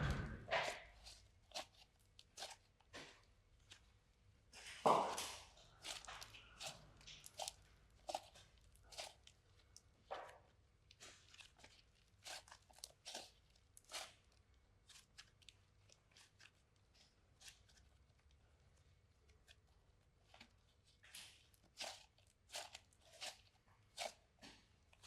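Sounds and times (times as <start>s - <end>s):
slime crunching and clicking: 0.6s - 3.9s, 4.6s - 10.1s, 10.8s - 18.4s, 20.3s - 25.0s.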